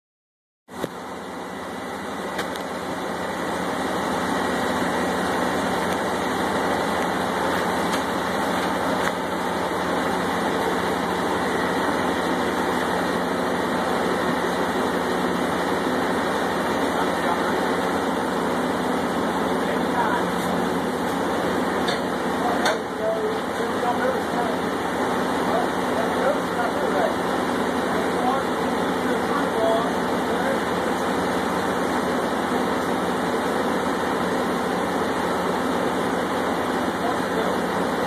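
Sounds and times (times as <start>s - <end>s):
drilling rig machinery drone: 0.7s - 38.0s.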